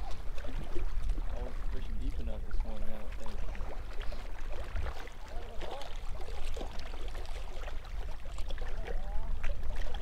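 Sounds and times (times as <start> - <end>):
waves lapping against rocks: 0.0 - 10.0.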